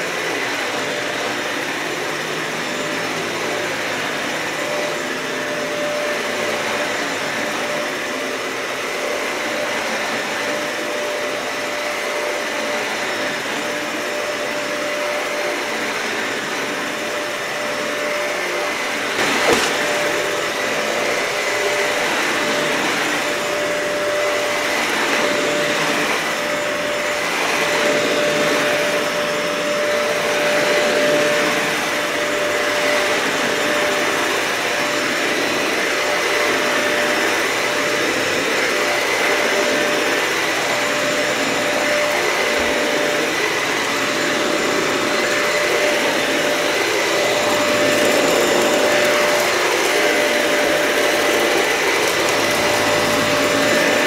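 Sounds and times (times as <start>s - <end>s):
vacuum cleaner running on carpet: 0.0s - 54.0s.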